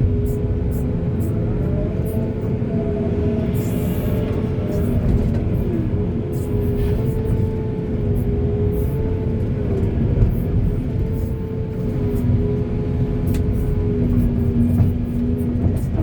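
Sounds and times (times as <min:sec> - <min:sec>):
diesel engine under load: 0:00.0 - 0:16.0
engine whine: 0:00.0 - 0:16.0.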